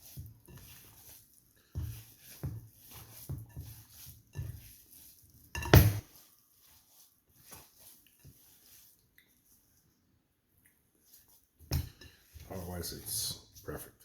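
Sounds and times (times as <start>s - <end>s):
stuffing mixing strokes in bowl: 0.0s - 10.0s, 10.7s - 14.0s.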